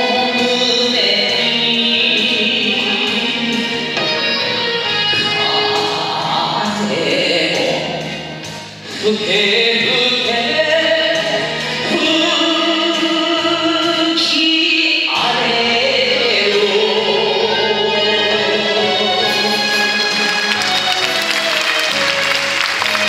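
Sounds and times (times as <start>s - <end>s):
man singing into microphone: 0.0s - 4.3s, 5.2s - 8.1s, 8.9s - 20.2s
instrumental accompaniment: 0.0s - 23.0s.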